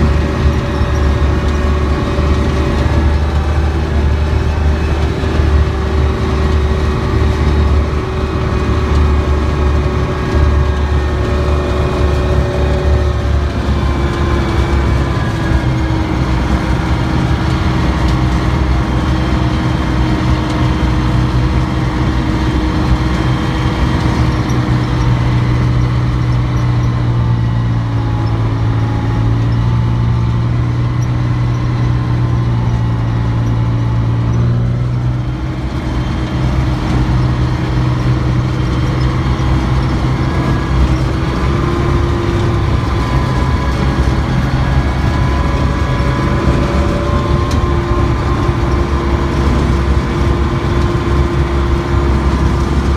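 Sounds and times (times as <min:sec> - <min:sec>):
armoured vehicle engine droning: 0:00.0 - 0:52.9.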